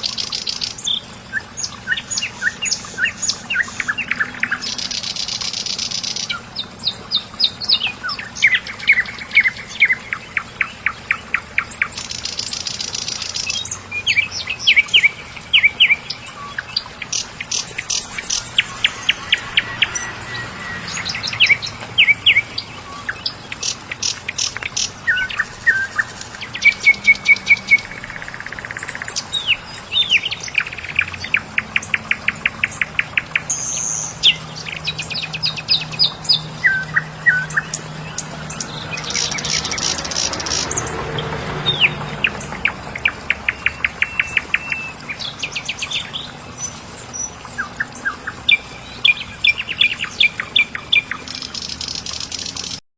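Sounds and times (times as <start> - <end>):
songbirds singing: 0.0 - 52.8.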